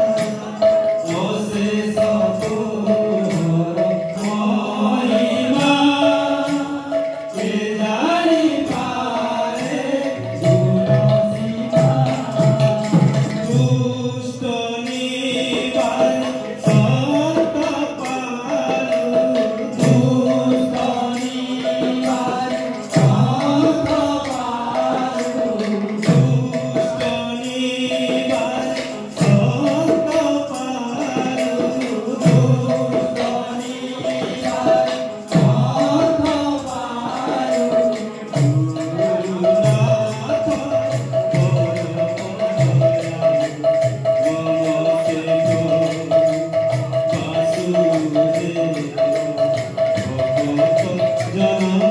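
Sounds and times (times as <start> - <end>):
hand-drum strokes: 0.0 - 51.9
jingling percussion: 0.0 - 51.9.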